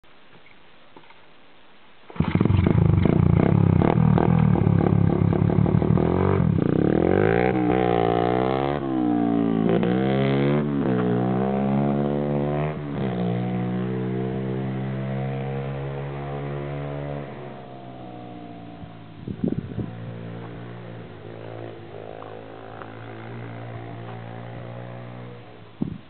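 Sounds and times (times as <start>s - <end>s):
pit bike engine revving: 2.2s - 25.6s.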